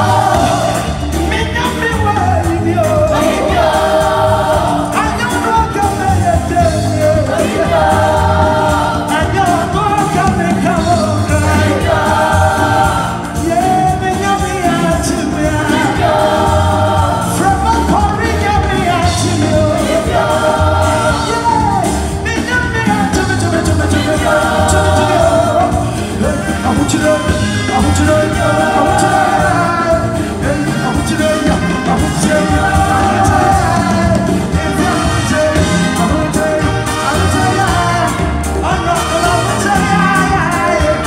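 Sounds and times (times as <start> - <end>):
backing vocals: 0.0 - 41.0
band with drums and bass: 0.0 - 41.0.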